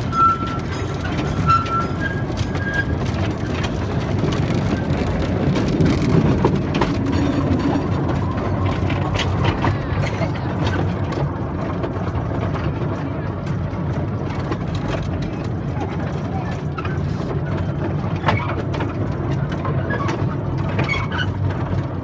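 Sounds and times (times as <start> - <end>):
small train rumbling on track: 0.0 - 22.0.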